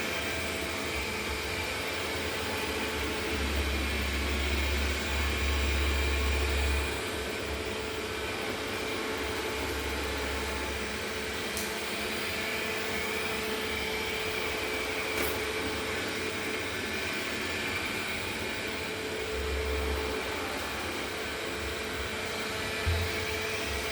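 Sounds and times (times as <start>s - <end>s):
mechanical whirring hum: 0.0s - 23.9s.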